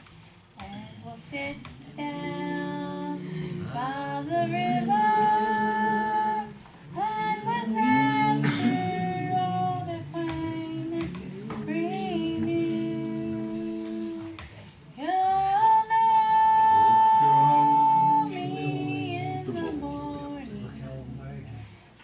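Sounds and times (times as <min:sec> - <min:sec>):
woman singing gospel song: 0:00.6 - 0:20.8.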